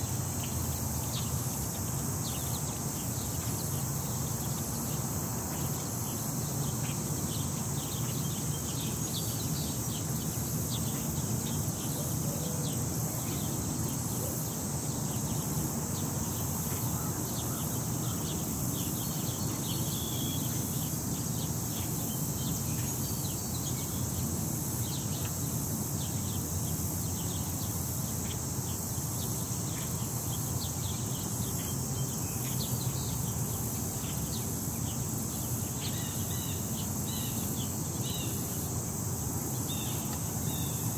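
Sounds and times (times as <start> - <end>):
steady high-pitched hum: 0.0 - 40.9.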